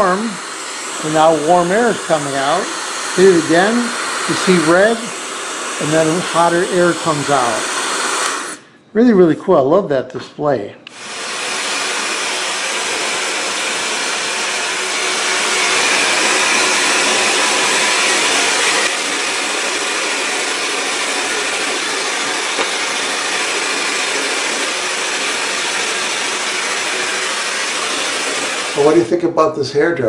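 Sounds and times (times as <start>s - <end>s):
hair dryer blowing air: 0.0s - 8.7s, 10.9s - 29.2s.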